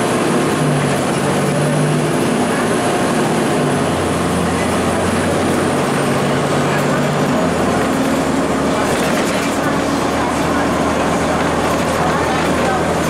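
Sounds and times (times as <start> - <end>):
bus diesel engine running: 0.0 - 13.0
road and body noise: 0.0 - 13.0.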